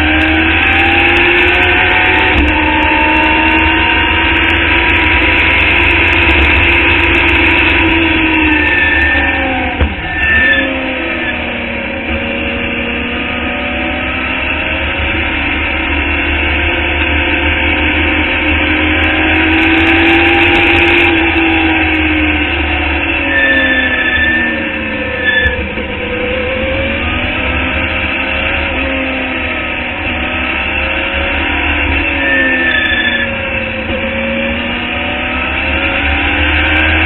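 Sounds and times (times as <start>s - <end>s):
race car engine revving: 0.0s - 37.0s.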